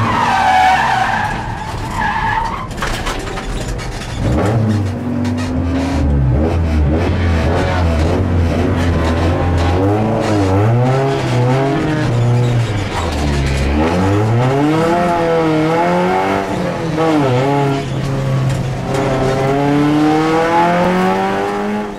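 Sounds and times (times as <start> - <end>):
race car engine accelerating: 4.2 - 21.9.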